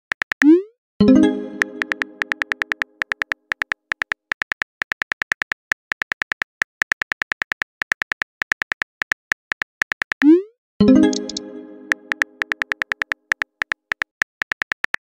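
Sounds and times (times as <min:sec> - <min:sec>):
phone keyboard clicks: 0:00.0 - 0:00.5, 0:01.7 - 0:10.3, 0:11.1 - 0:15.0.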